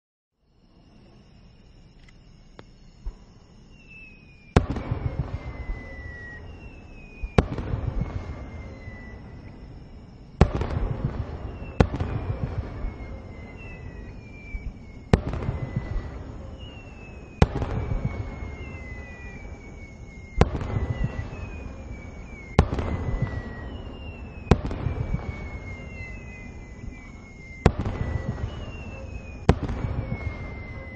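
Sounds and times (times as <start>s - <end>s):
descending whistles: 0.4s - 30.9s
firework crackle: 2.6s - 30.9s
firework bangs: 3.0s - 30.9s.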